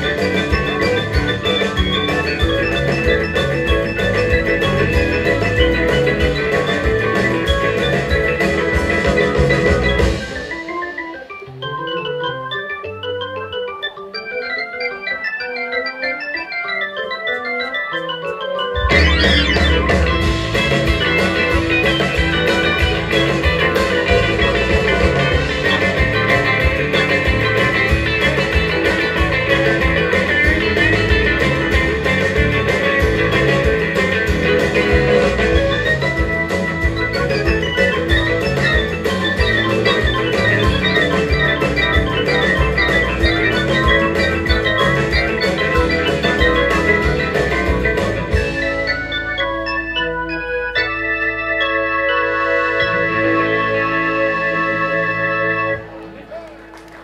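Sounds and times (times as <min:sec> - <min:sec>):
twangy electric guitar: 0:00.0 - 0:11.6, 0:18.3 - 0:56.2
drums: 0:00.0 - 0:57.0
electronic organ: 0:00.0 - 0:57.0.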